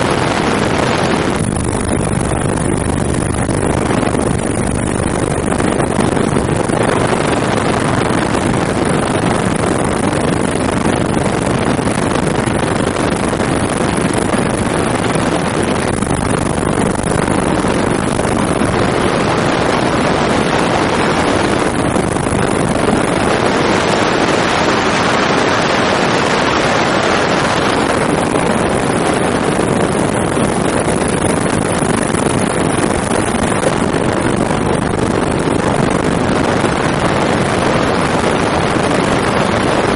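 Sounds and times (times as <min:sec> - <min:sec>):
helicopter engine and rotor: 0:00.0 - 0:39.9
rushing air: 0:00.0 - 0:39.9.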